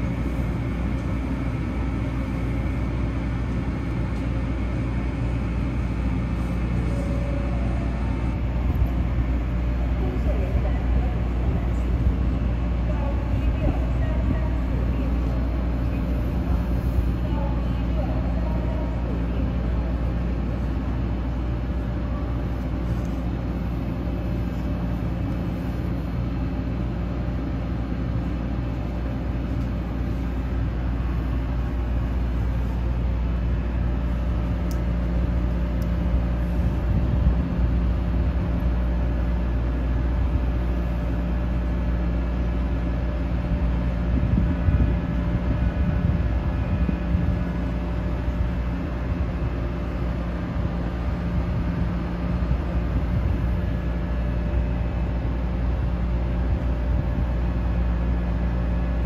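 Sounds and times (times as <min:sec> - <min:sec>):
train carriage hum and rumble: 0:00.0 - 0:59.0.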